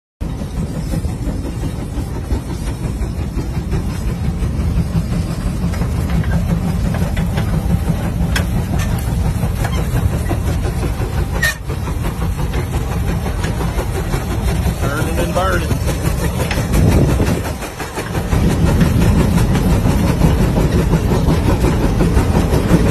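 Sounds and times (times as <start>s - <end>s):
steam traction engine rumbling: 0.2s - 22.9s.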